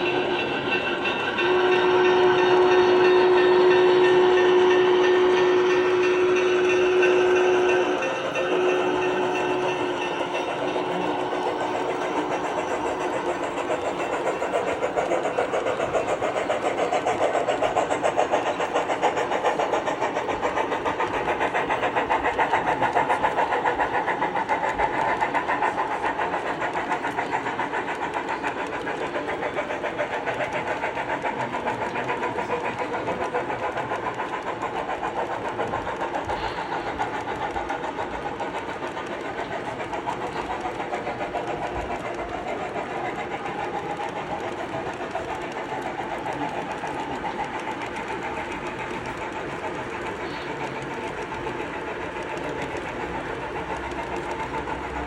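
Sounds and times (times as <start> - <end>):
train clattering on track: 0.0 - 55.0.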